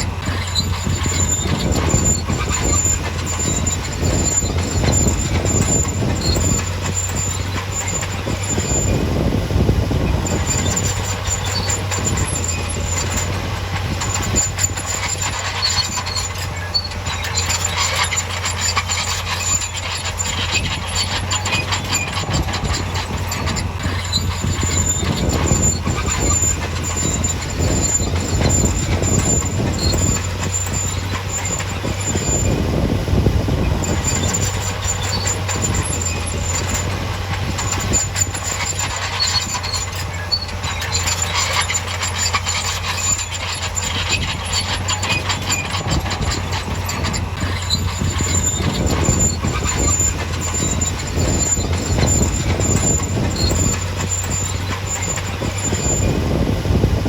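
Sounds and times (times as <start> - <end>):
diesel engine drone: 0.0 - 57.0
high squeal: 0.0 - 57.0
steel tracks clanking: 0.0 - 57.0.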